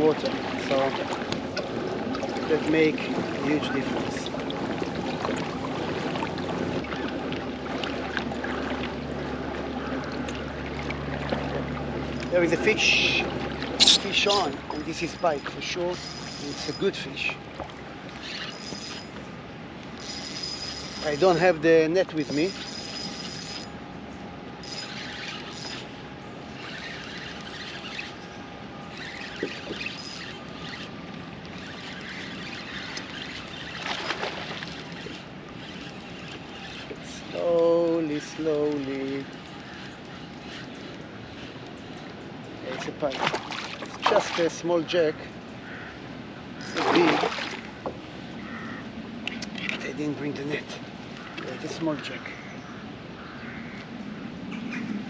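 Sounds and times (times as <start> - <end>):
water swishing and trickling: 0.0 - 55.0.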